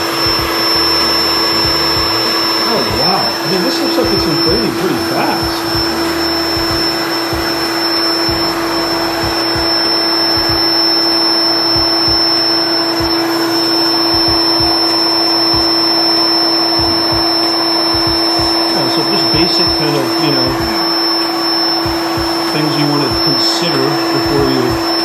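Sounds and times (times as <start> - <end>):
electric air pump whirring: 0.0 - 25.0.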